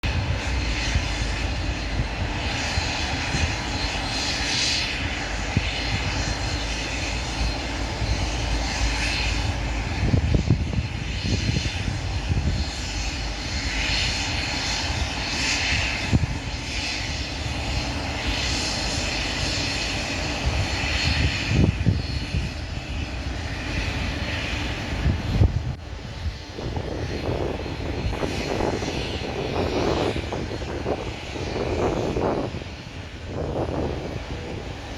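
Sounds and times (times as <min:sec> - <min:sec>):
jet engines at taxi power: 0:00.0 - 0:34.9.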